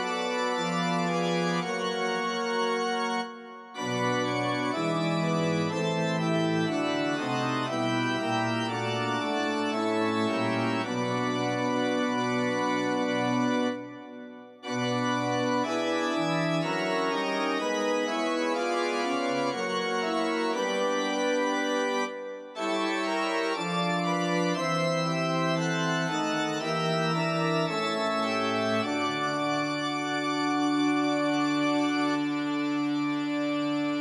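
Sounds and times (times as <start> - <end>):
slow organ chords: 0.0 - 34.0.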